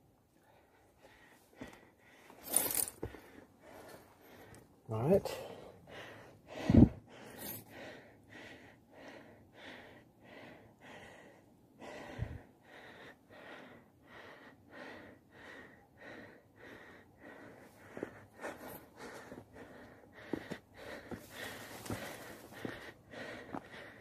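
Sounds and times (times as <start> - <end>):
heavy breathing: 0.4 - 24.0.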